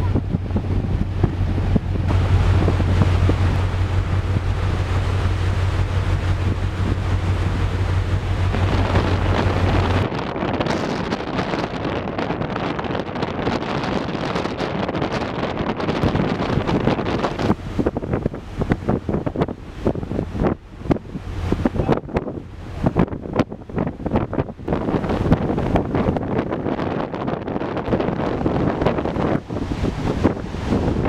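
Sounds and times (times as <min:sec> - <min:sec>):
low ship hum: 0:00.0 - 0:31.0
sea rushing: 0:00.0 - 0:31.0
wind buffeting microphone: 0:00.0 - 0:31.0.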